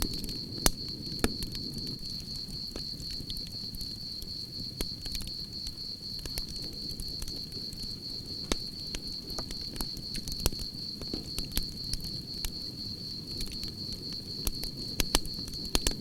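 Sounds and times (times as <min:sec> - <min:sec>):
campfire crackling and popping: 0:00.0 - 0:16.0
crickets chirring: 0:00.0 - 0:16.0.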